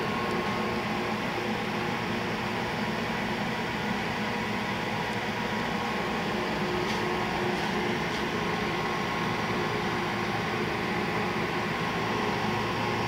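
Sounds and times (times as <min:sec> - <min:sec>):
steady machinery hum: 0:00.0 - 0:13.0.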